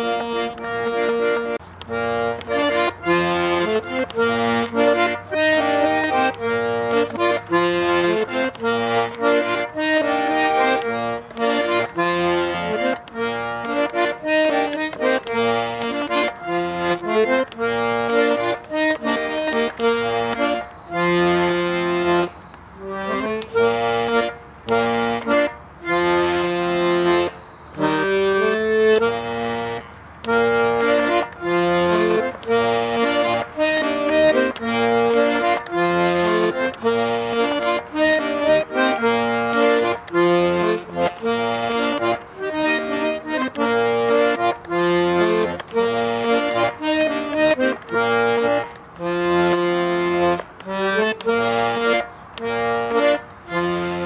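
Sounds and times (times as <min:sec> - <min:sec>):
button accordion playing chords: 0:00.0 - 0:54.0.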